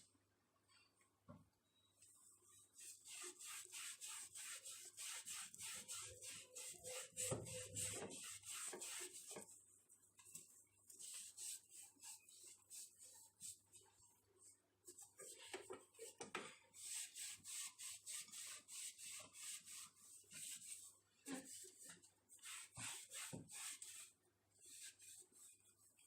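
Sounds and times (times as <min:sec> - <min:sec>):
rubbing strokes wiping microwave: 0:02.3 - 0:09.7, 0:10.5 - 0:16.2, 0:16.8 - 0:26.0.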